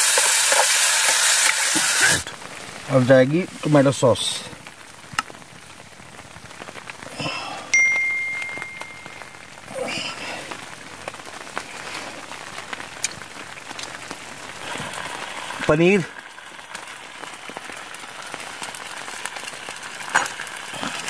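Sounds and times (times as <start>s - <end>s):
rain on a tent: 0.0s - 21.0s.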